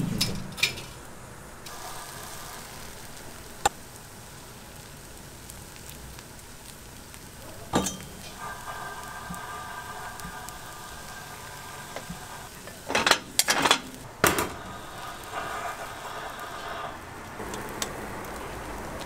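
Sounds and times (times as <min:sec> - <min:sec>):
batter sizzling in molds: 0:00.8 - 0:19.0.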